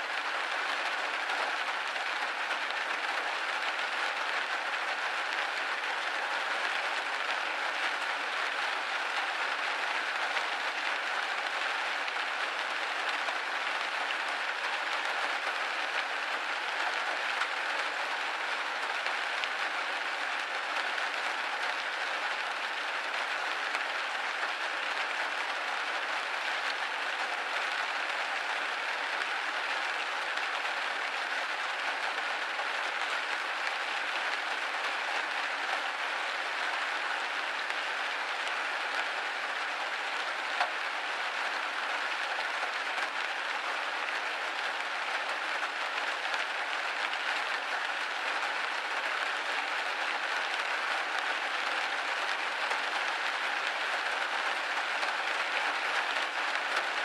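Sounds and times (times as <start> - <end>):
rain on window glass: 0.0 - 57.0.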